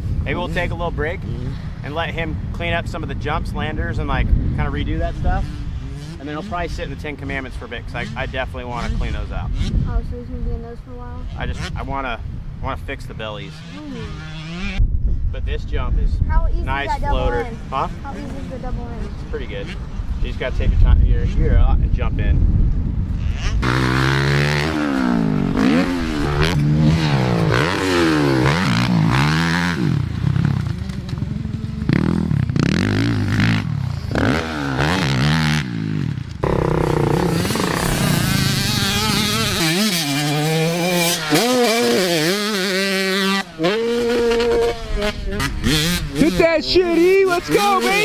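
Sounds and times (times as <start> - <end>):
motocross engines revving: 0.0 - 12.1, 13.0 - 14.8, 16.6 - 21.8, 23.1 - 48.0.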